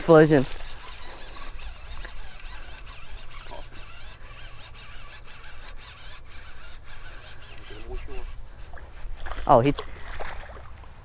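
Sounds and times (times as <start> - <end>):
fishing reel whirring: 0.0 - 10.3.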